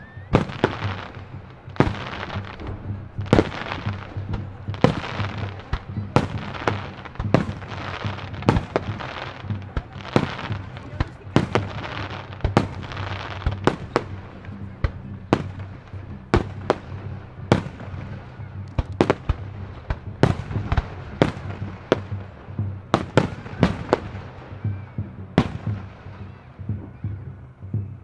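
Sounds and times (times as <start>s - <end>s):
firework crackle: 0.0s - 26.5s.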